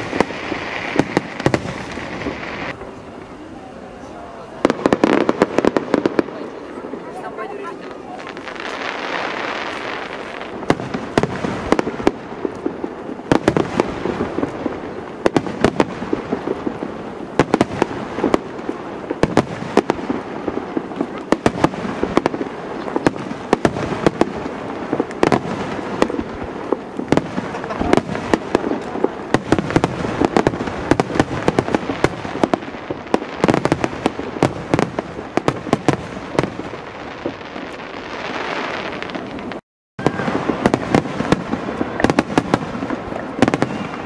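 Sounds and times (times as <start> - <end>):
crackling firework stars: 0.0 - 44.0.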